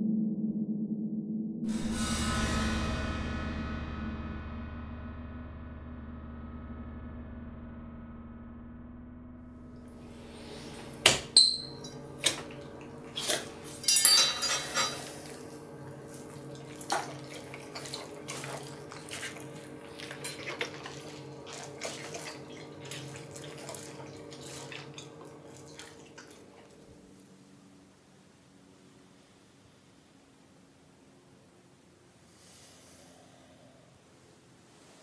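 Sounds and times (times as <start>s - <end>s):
faint steady hum: 6.0s - 35.0s.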